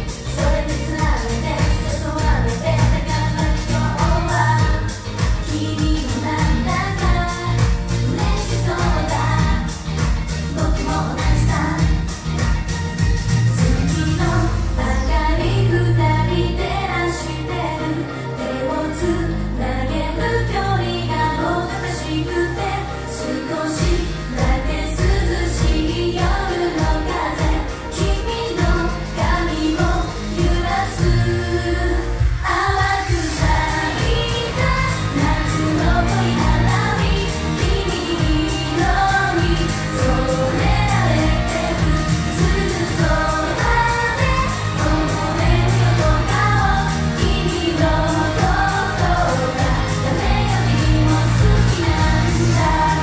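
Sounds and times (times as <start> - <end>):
pop backing track heavy beat: 0.0 - 16.8, 21.6 - 53.0
girls singing pop song: 0.0 - 53.0.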